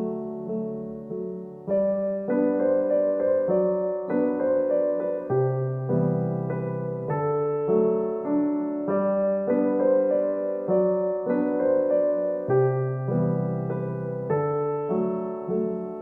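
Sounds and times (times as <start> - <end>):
soft electric piano chords: 0.0 - 16.0.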